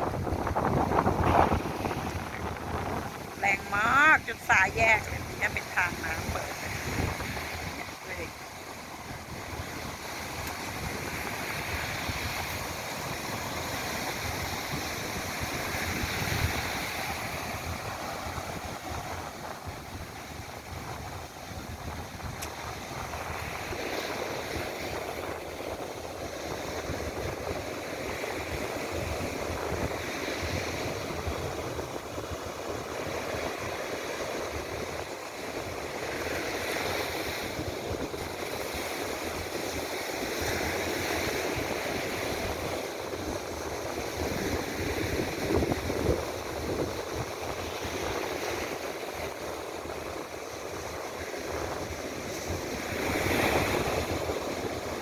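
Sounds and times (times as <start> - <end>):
sea surf and rushing water: 0.0 - 55.0.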